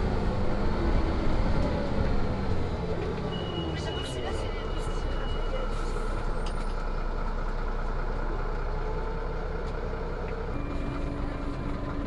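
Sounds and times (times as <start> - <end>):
bus engine rumble inside cabin: 0.0 - 12.0.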